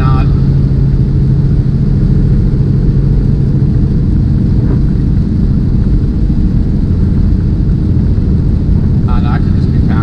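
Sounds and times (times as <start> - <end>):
diesel engine rumble: 0.0 - 10.0
road noise: 0.0 - 10.0.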